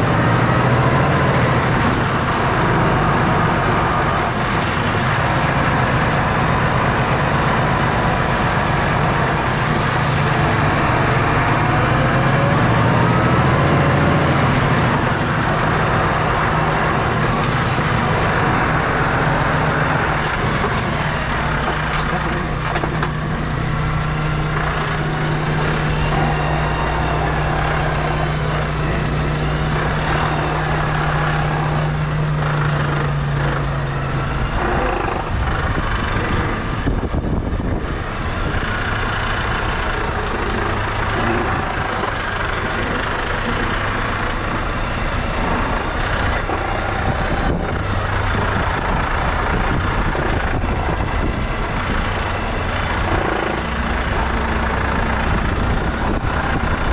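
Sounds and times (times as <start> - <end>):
rolling noise: 0.0 - 56.9
truck diesel engine running: 0.0 - 56.9.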